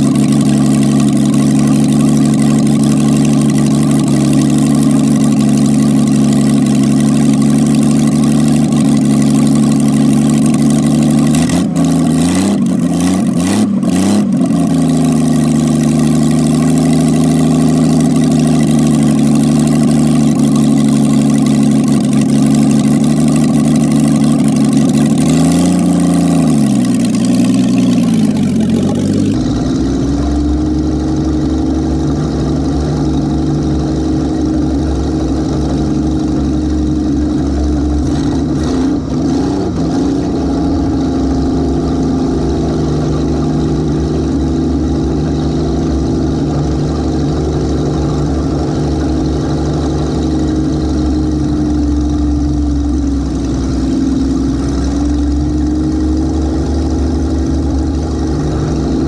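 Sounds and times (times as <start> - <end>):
car engine idling and revving: 0.0 - 59.0
car pulling away: 0.0 - 59.0.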